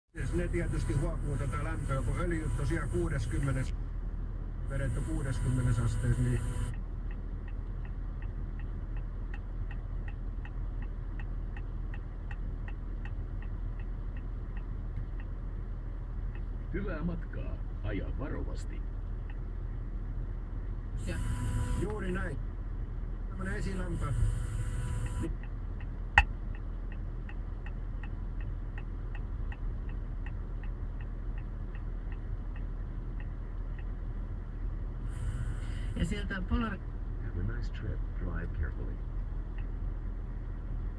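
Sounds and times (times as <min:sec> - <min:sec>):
engine idling hum: 0:00.1 - 0:40.9
turn signal ticking: 0:04.7 - 0:40.9.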